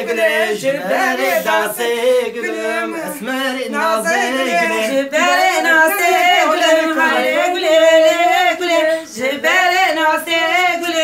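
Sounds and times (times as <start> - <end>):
men and women singing unaccompanied: 0.0 - 11.0.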